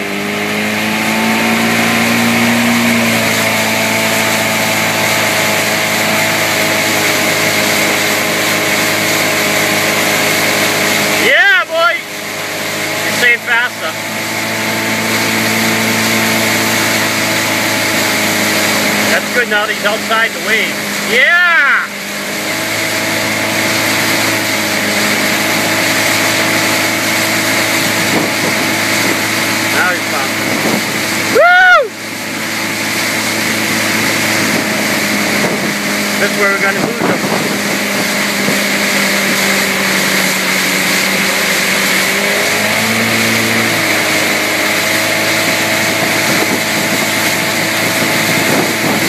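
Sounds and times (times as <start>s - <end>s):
motorboat engine running: 0.0s - 49.0s
water rushing: 0.0s - 49.0s.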